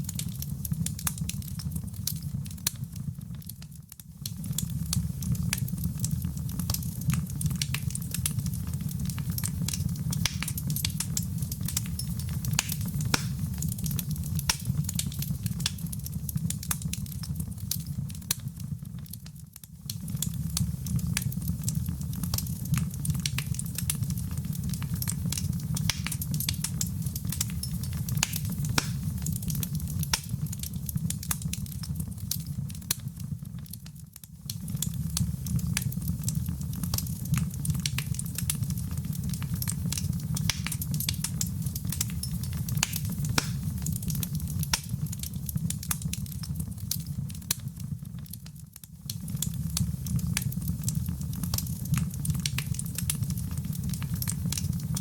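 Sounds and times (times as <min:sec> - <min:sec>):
fire crackling and snapping: 0:00.0 - 0:55.0.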